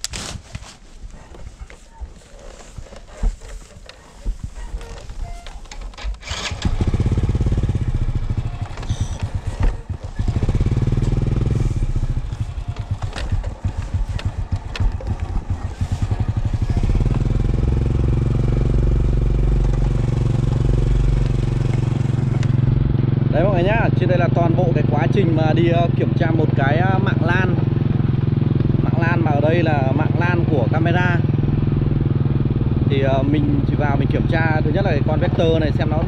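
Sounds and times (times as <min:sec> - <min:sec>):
motorbike engine revving: 0:02.4 - 0:36.0.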